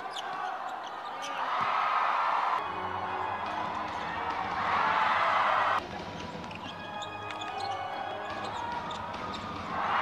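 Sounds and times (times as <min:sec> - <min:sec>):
crowd roar in arena: 0:00.0 - 0:05.8, 0:07.6 - 0:10.0.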